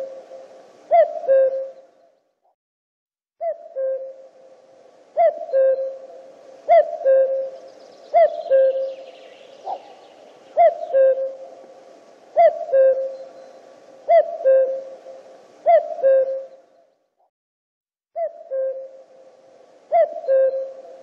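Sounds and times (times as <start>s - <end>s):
cuckoo calling: 0.0s - 2.1s, 3.4s - 16.9s, 18.2s - 21.0s.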